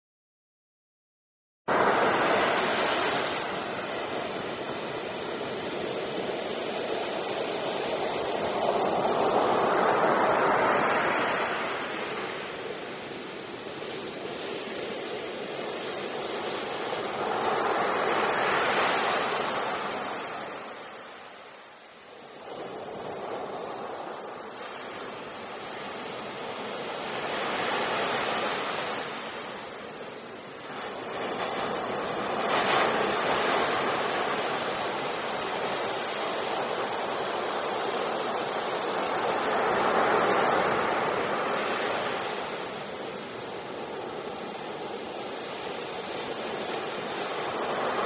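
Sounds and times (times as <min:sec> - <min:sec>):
rushing wash of foam and water: 0:01.7 - 0:48.0
wave breaking on shore: 0:01.7 - 0:48.0.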